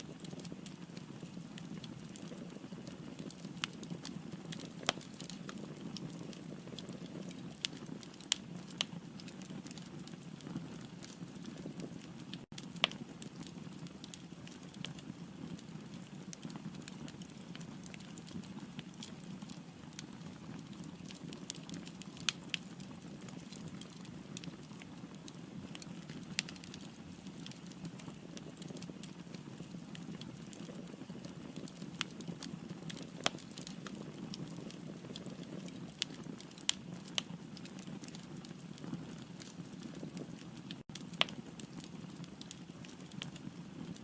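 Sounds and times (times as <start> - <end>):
firewood burning with crackles: 0.0 - 44.0.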